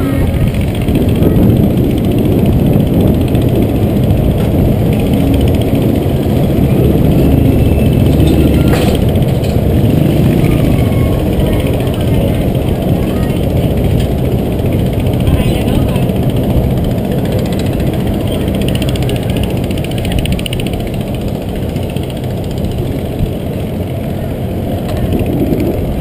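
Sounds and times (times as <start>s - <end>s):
motorbike engines rumbling: 0.0s - 26.0s.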